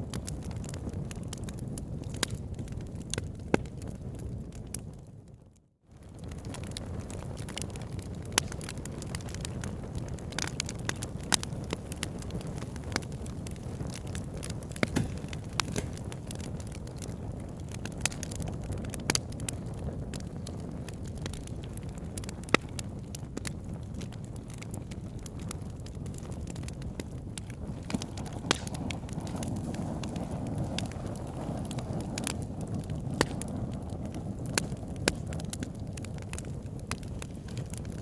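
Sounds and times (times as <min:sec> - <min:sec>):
low rumble of flames: 0:00.0 - 0:38.0
wood fire crackling and popping: 0:00.0 - 0:38.0.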